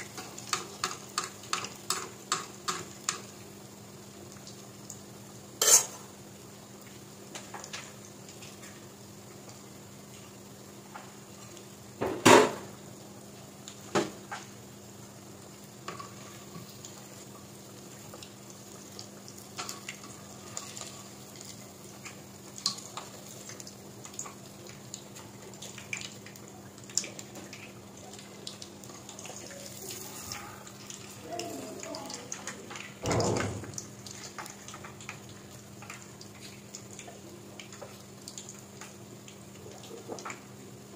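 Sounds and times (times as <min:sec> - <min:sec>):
oil sizzling: 0:00.0 - 0:40.9.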